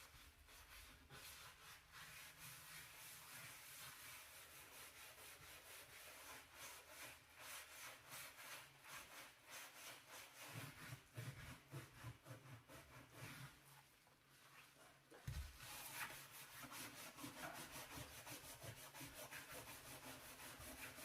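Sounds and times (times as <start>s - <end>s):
brush scrubbing stove: 0.0s - 21.0s.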